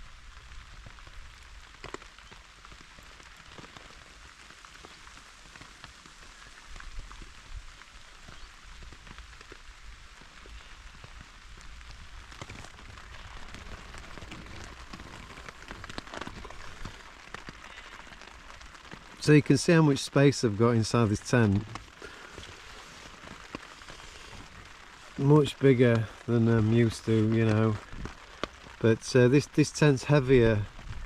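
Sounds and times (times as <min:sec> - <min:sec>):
rain pattering on tent fabric: 0:00.0 - 0:31.0.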